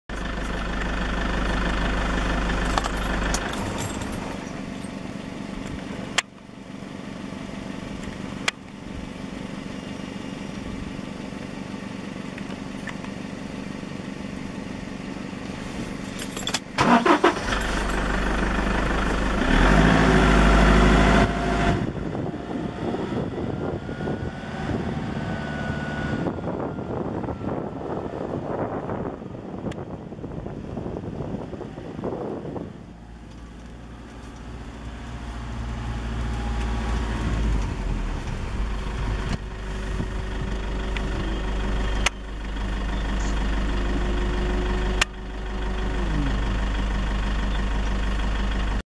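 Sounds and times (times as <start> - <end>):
car engine idling: 0.1 - 25.2, 26.2 - 48.8.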